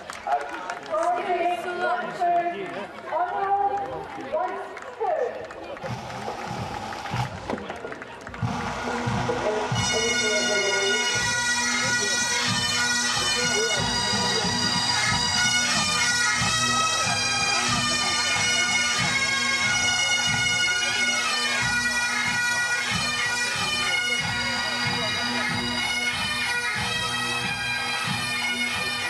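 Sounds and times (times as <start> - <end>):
pipe bands playing bagpipes: 3.2 - 29.0.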